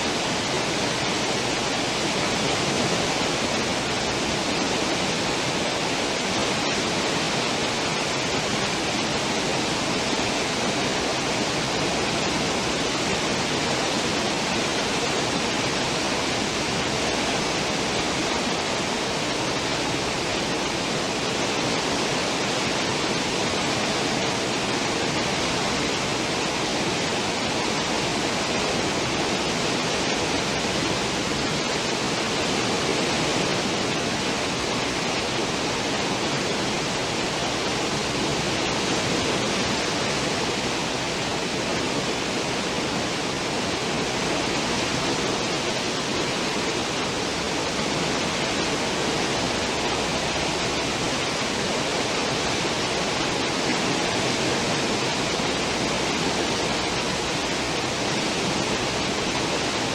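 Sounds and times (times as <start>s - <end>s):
rushing wake water: 0.0s - 59.9s.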